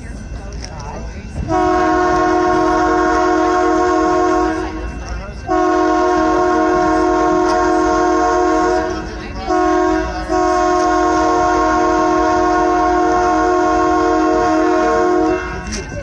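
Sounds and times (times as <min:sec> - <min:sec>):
locomotive horn blasts: 0:01.4 - 0:16.0.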